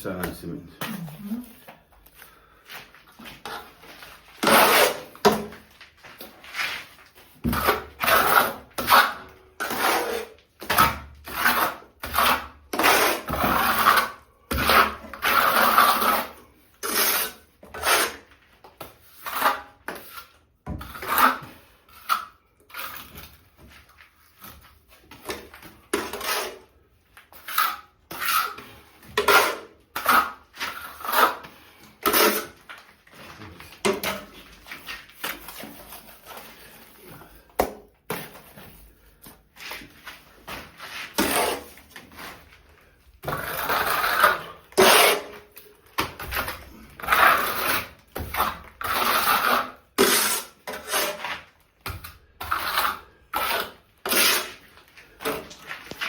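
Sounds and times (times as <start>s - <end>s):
tool scraping mortar: 3.3s - 56.0s.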